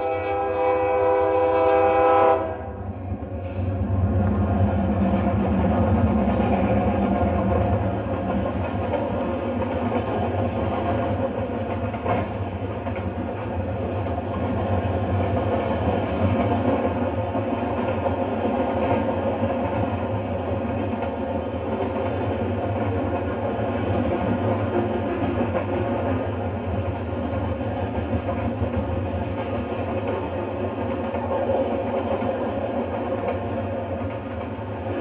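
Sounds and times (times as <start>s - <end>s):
freight train rolling past: 0.0s - 35.0s.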